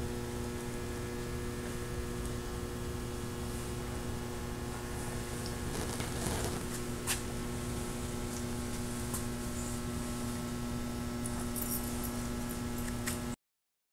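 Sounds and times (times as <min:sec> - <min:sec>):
electrical mains hum: 0:00.0 - 0:13.4.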